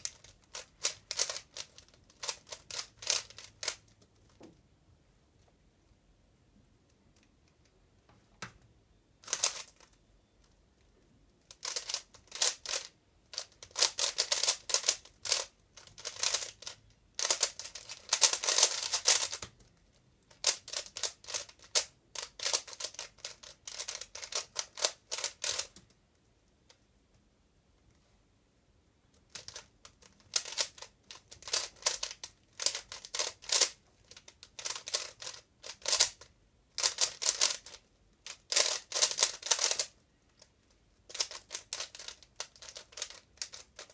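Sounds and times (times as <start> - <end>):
puzzle cube plastic clicking: 0.0 - 4.6, 9.2 - 26.0, 29.1 - 43.9.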